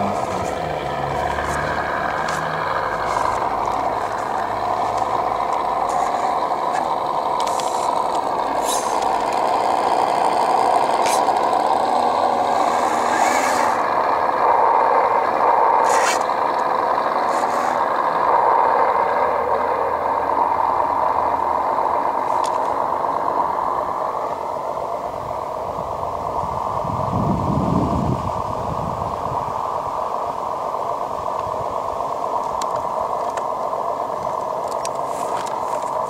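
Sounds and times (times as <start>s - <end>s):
toy truck motor drone: 0.0s - 36.0s.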